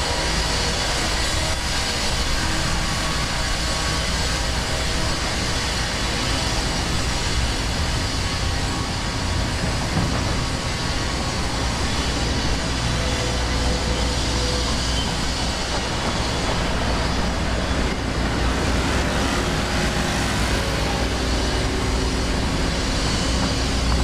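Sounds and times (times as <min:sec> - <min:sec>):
constant low hum: 0:00.0 - 0:24.0
street traffic: 0:00.0 - 0:24.0.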